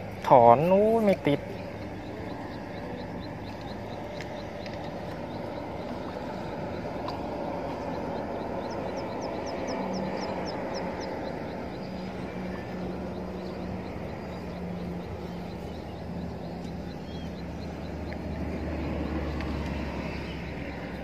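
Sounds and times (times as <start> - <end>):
low outdoor rumble: 0.0 - 21.0
bird chirping: 0.6 - 21.0.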